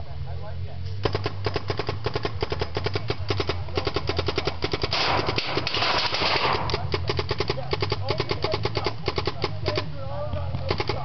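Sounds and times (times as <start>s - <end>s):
paintball markers firing: 1.0s - 11.0s.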